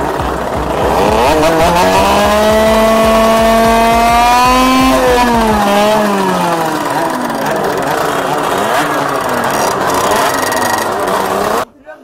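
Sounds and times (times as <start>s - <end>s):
motorcycle engine revving: 0.0s - 11.7s.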